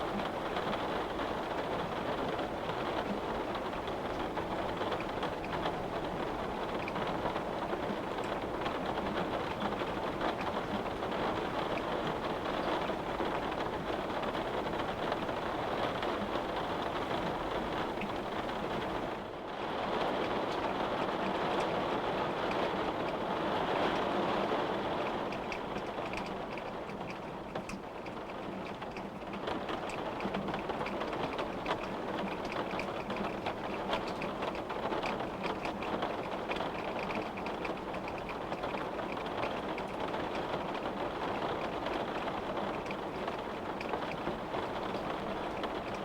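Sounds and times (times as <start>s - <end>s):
rain tapping on window: 0.0s - 46.0s.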